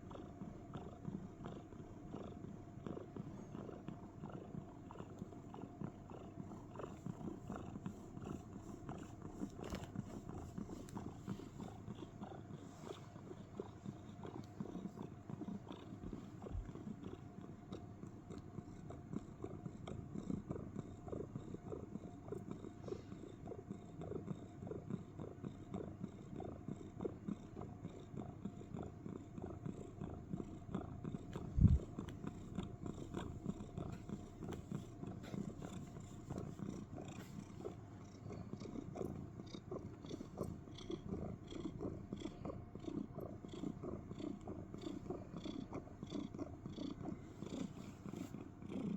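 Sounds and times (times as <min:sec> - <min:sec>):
cat purring: 0:00.0 - 0:48.9.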